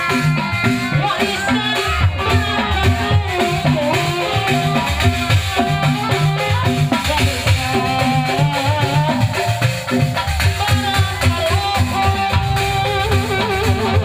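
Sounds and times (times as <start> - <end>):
hand drum rhythm: 0.0 - 14.0
rattle percussion: 0.0 - 14.0.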